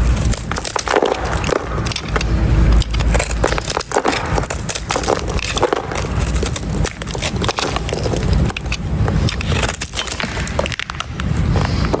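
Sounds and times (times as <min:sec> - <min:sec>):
crispy soap scraping: 0:00.0 - 0:12.0.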